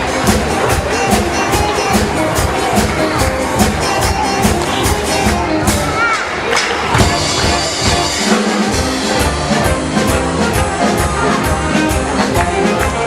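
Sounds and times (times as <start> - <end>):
music with brass and drums: 0.0 - 13.0.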